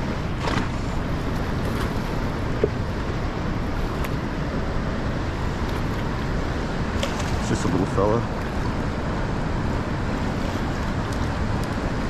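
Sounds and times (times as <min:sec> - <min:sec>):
fast-flowing river water: 0:00.0 - 0:12.0
wind rumbling on microphone: 0:00.0 - 0:12.0.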